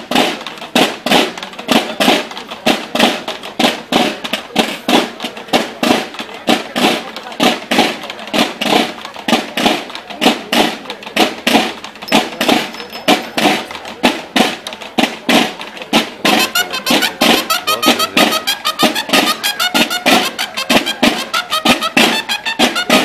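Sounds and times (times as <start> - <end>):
drum-driven music: 0.0 - 23.0.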